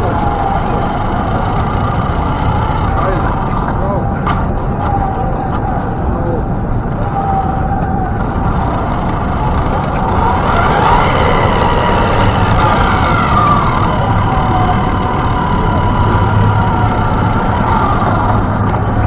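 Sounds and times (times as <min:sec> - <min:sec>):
city street traffic: 0:00.0 - 0:19.0
siren wailing: 0:00.0 - 0:19.0.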